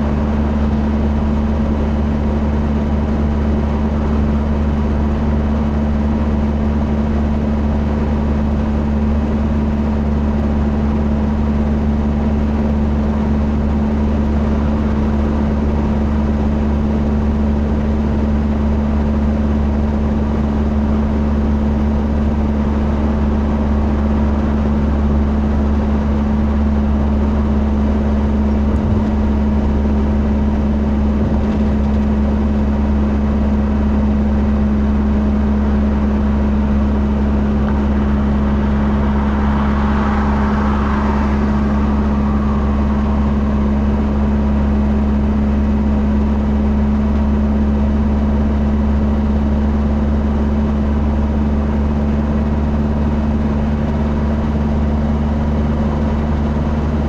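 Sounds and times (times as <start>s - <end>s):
car engine and road noise: 0.0s - 57.0s
constant low hum: 0.0s - 57.0s.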